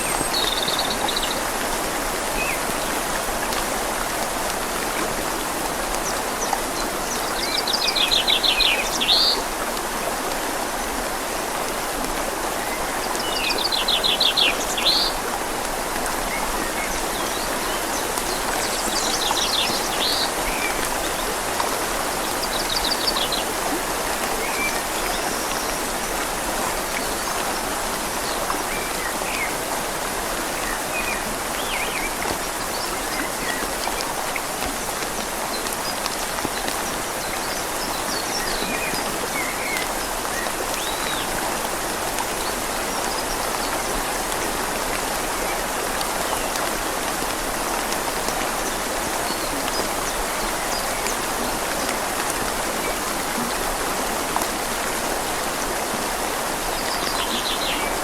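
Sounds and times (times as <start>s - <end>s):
rain falling: 0.0s - 58.0s
river flowing: 0.0s - 58.0s.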